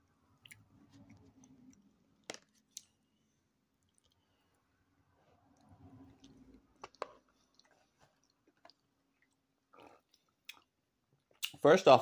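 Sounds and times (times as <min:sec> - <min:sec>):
quiet chewing: 0:00.4 - 0:03.0, 0:03.8 - 0:11.5.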